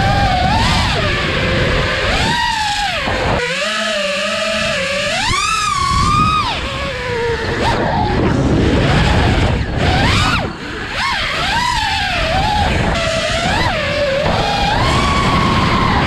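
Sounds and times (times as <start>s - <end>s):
drone motors whining: 0.0s - 16.0s
wind on microphone: 0.0s - 16.0s.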